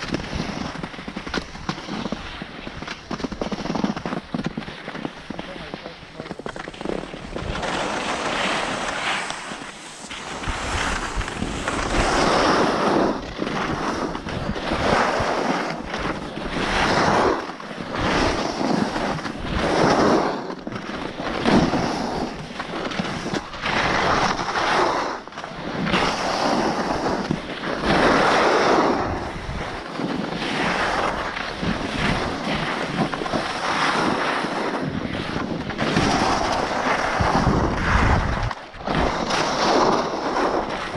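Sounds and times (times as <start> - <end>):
skis scraping on snow: 0.0 - 40.9
wind rumbling on microphone: 0.0 - 40.9.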